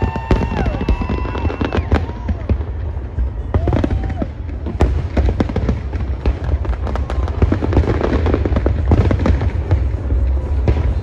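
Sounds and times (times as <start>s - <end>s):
fireworks cracking and banging: 0.0s - 11.0s
low rumble of fireworks booms: 0.0s - 11.0s.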